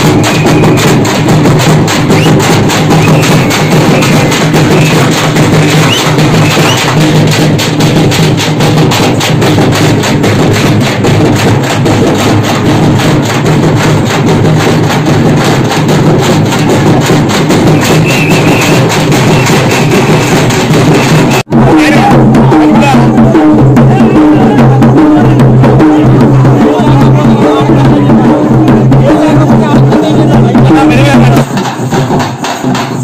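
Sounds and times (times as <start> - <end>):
group of drummers drumming: 0.0 - 33.0.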